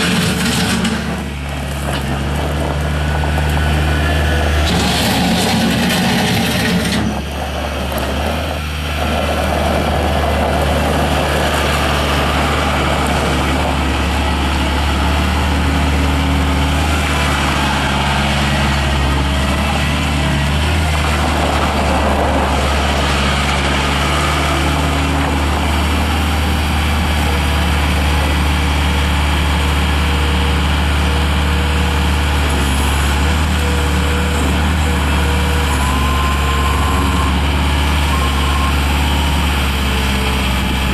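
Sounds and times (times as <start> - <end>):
loader engine running: 0.0 - 40.9.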